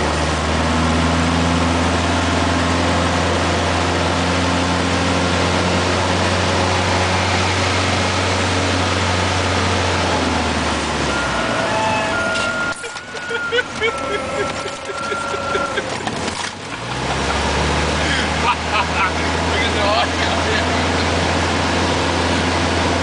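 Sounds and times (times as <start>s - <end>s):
airplane engine and propeller droning: 0.0s - 23.0s.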